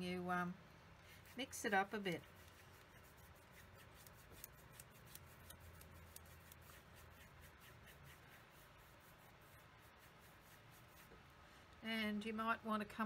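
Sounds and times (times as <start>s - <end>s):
paintbrush strokes on canvas: 1.0s - 11.8s.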